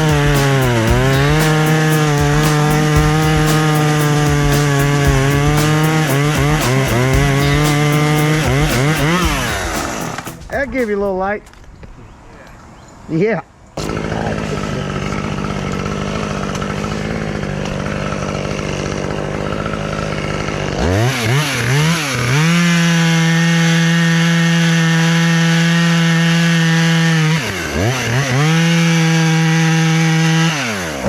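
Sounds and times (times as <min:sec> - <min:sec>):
chainsaw engine revving: 0:00.0 - 0:11.0, 0:13.8 - 0:31.0.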